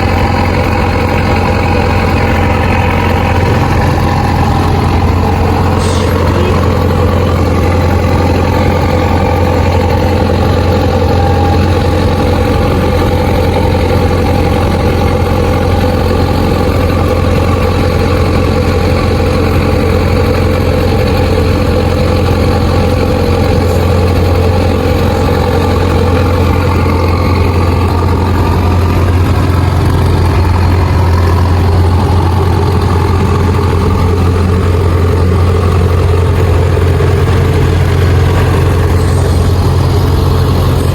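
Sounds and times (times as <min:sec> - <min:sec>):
combine harvester engine running: 0:00.0 - 0:40.9.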